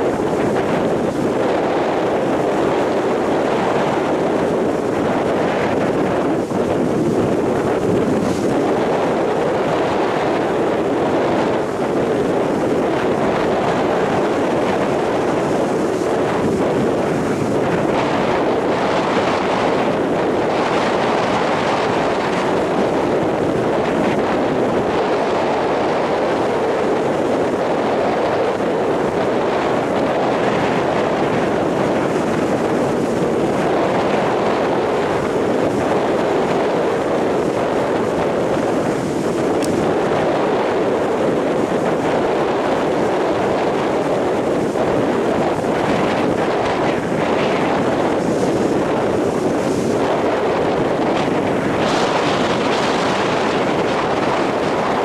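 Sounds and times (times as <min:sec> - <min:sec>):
strong wind: 0:00.0 - 0:55.0
surf breaking on beach: 0:00.0 - 0:55.0.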